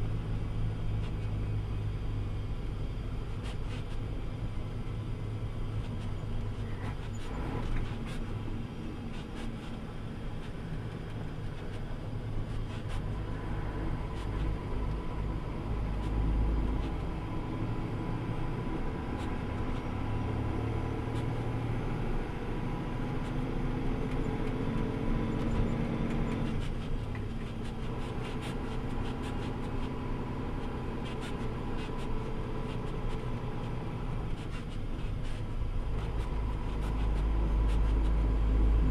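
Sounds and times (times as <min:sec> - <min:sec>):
tyre and road noise: 0:00.0 - 0:38.9.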